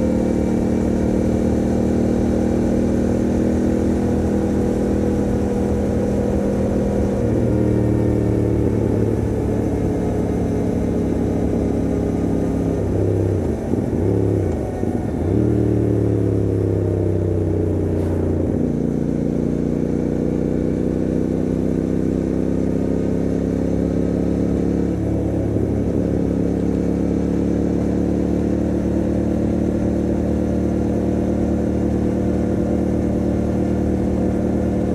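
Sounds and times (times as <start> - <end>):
motorcycle engine cruising: 0.0 - 34.9.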